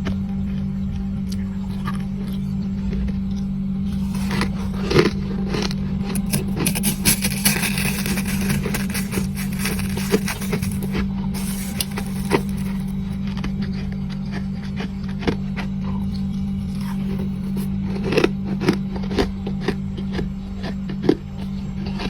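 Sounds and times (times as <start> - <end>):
steady low hum: 0.0 - 22.0
chewing crunchy frost: 3.8 - 22.0.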